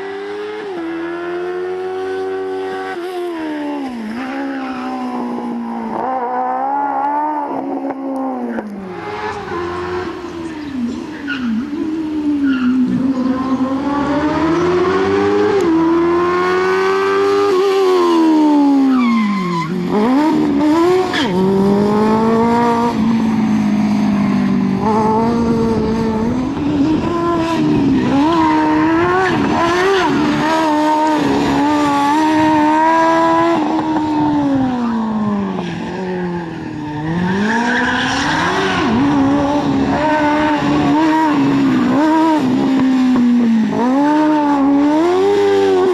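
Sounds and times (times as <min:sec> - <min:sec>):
motorcycle engine revving: 0:00.0 - 0:19.0, 0:19.6 - 0:35.6, 0:37.0 - 0:45.9.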